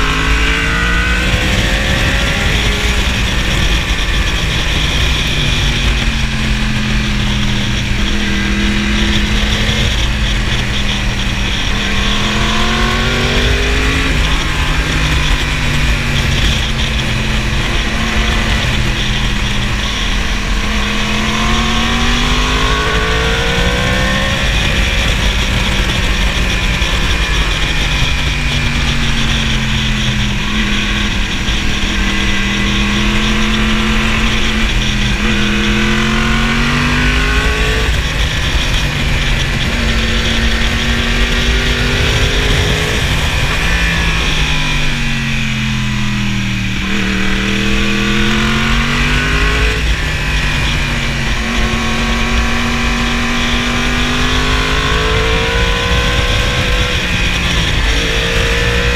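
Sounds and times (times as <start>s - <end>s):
motorcycle engine revving: 0.0s - 58.9s
wind rush: 0.0s - 58.9s.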